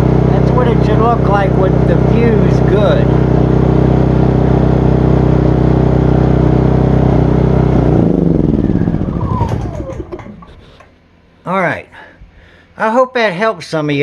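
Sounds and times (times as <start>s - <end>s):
generator engine running: 0.0s - 11.3s.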